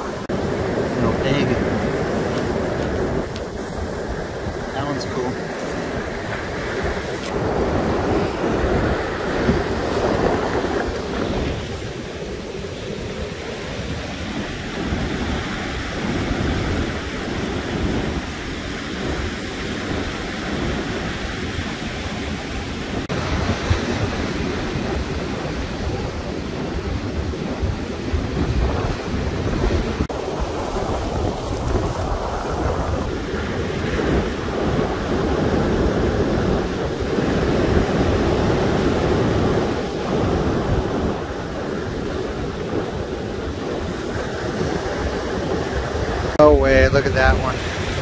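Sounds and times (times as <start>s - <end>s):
surf washing up pebble beach: 0.0s - 48.0s
wind buffeting microphone: 0.0s - 48.0s.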